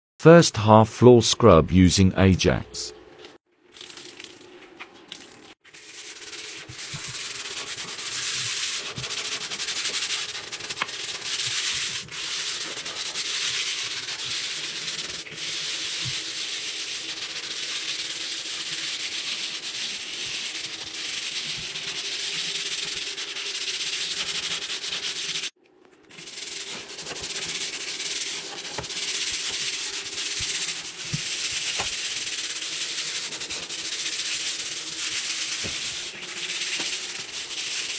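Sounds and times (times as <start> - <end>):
scrubbing brush on wet tiles: 3.8 - 37.9.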